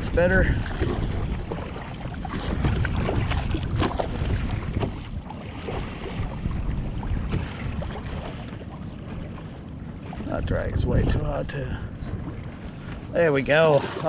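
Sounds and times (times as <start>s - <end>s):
water sloshing around kayak: 0.0s - 14.0s
wind buffeting microphone: 0.0s - 14.0s.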